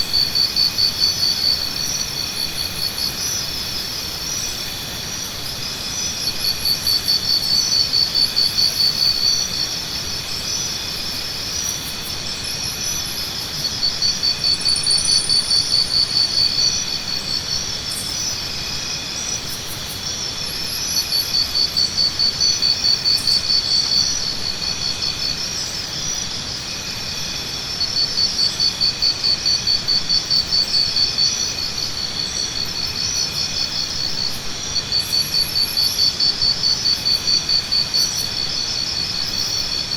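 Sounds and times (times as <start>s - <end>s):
high-pitched insect chorus: 0.0s - 39.9s
rapidly pulsing insect call: 0.0s - 39.9s.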